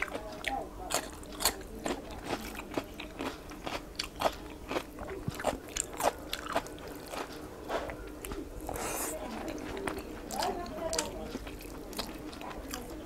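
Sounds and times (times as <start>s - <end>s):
chewing and mouth clicks: 0.0s - 13.0s.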